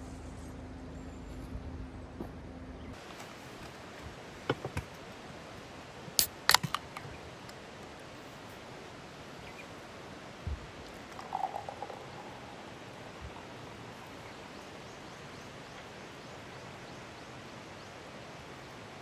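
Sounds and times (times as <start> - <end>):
steady hiss: 3.0 - 19.0.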